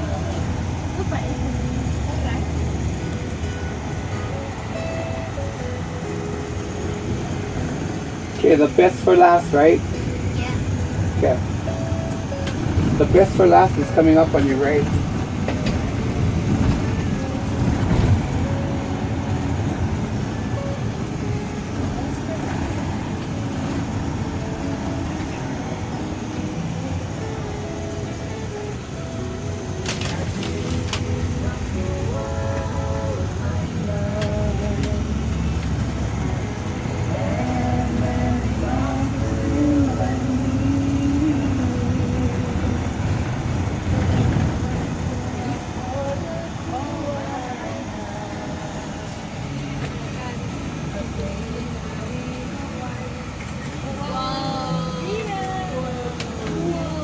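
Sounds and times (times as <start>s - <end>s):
vehicle engine and road rumble: 0.0s - 57.0s
wavering droning tone: 0.0s - 57.0s.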